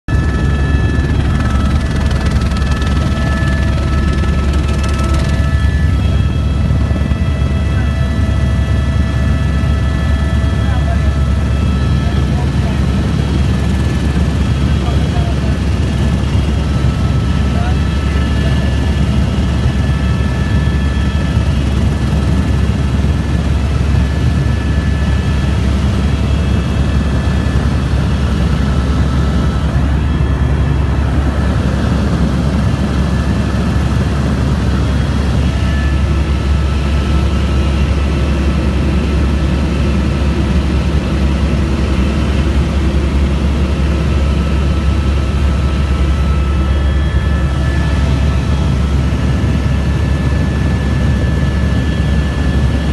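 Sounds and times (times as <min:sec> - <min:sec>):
helicopter rotor and engine drone: 0:00.1 - 0:52.9
high turbine whine: 0:00.1 - 0:52.9.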